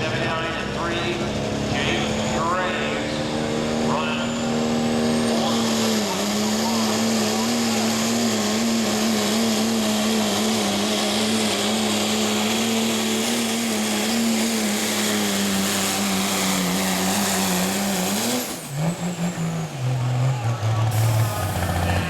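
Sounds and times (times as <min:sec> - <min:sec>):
diesel truck engine at full throttle: 0:00.0 - 0:22.0
high turbo whine: 0:00.0 - 0:22.0.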